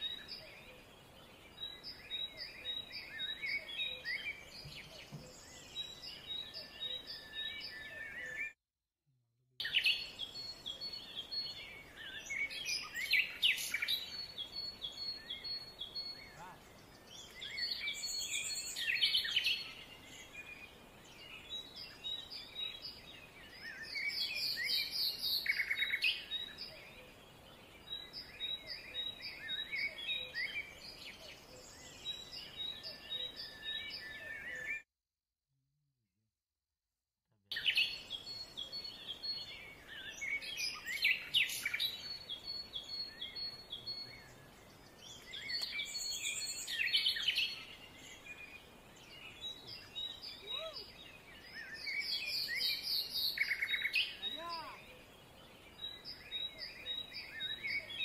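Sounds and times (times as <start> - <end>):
forest birds singing: 0.0 - 8.6, 9.6 - 34.9, 37.5 - 58.0.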